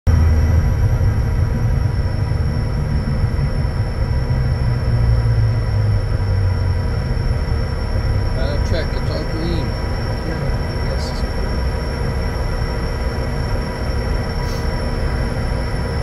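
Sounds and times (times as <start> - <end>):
jet engines rumbling and whining: 0.1 - 16.0.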